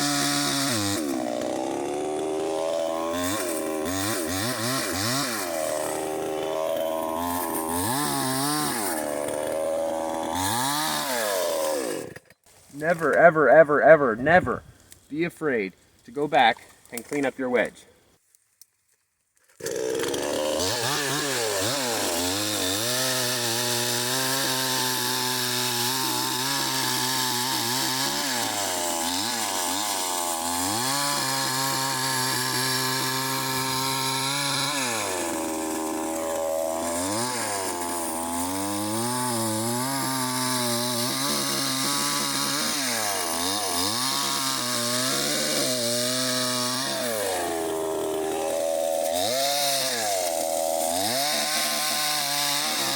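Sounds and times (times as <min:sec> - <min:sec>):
chainsaw cutting wood: 0:00.0 - 0:15.1, 0:19.4 - 0:52.9.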